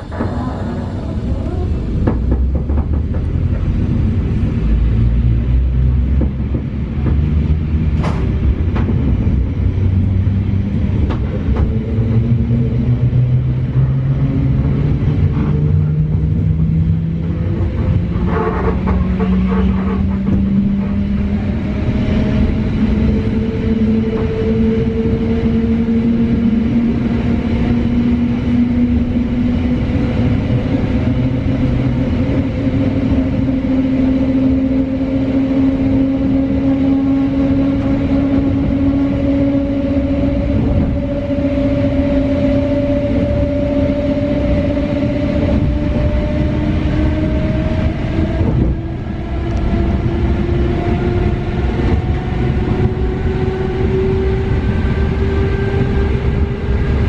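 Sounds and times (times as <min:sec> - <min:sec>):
train traction drive whine: 0:00.0 - 0:57.0
train wheels rumbling on rails: 0:00.0 - 0:57.0.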